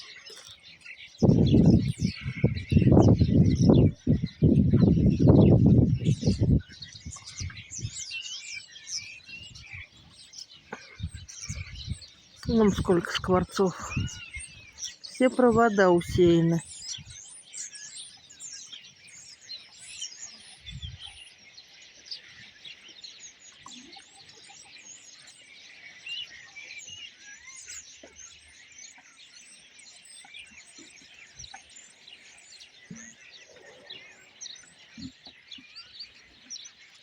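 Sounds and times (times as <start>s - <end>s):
flock of starlings chattering: 0.0s - 37.0s.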